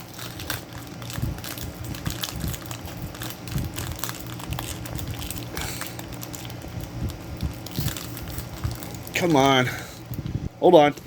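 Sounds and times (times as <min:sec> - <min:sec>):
packaging crinkling: 0:00.0 - 0:10.3.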